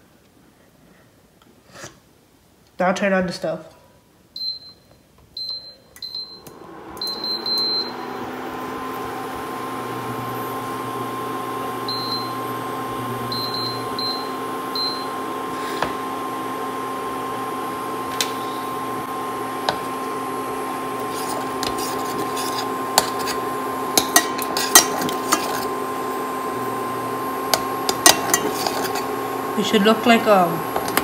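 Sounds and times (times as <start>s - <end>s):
cooling fan hum: 6.0s - 31.0s.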